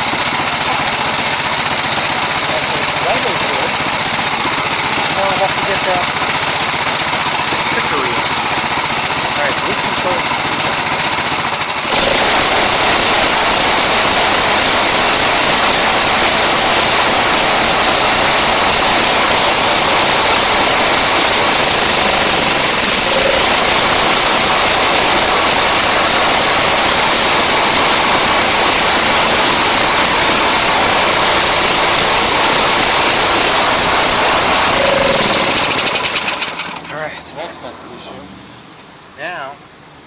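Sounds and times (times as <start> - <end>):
snowblower engine running: 0.0 - 37.5.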